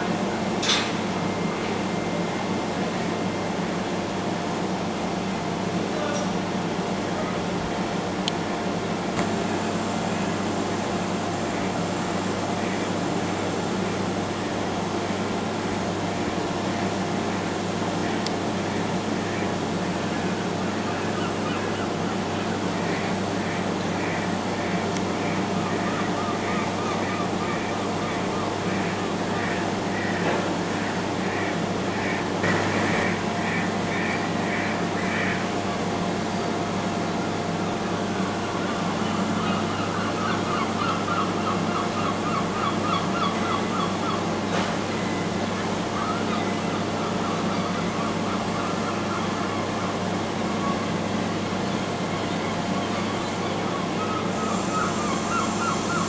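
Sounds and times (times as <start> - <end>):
low hum of container port: 0.0 - 56.0
ship engine drone: 0.0 - 56.0.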